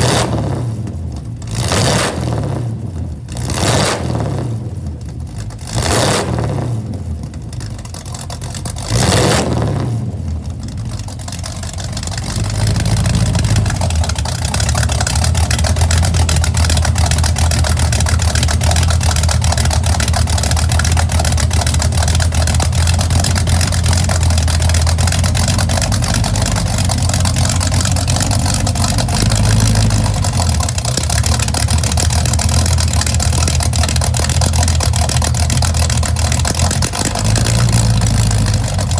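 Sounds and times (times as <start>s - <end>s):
car engine revving: 0.0s - 38.9s
low exhaust note: 0.0s - 38.9s.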